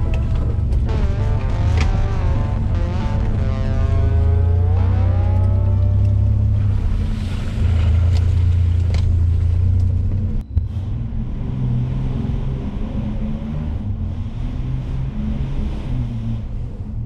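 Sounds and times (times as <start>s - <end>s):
car engine running while driving: 0.0s - 17.0s.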